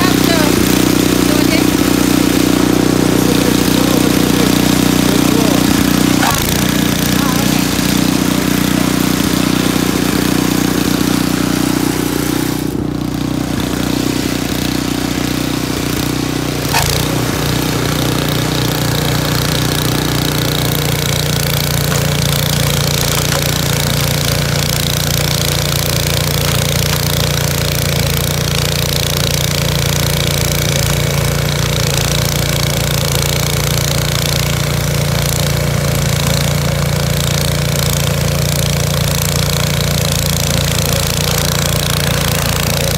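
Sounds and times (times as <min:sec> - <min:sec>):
snow blower engine running: 0:00.0 - 0:42.9.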